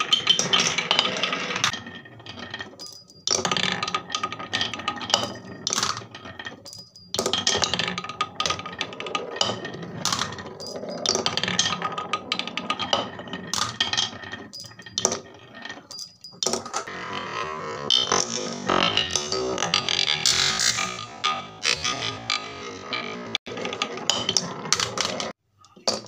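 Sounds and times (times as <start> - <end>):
marbles clattering on wooden tracks: 0.0 - 17.3, 17.9 - 26.0.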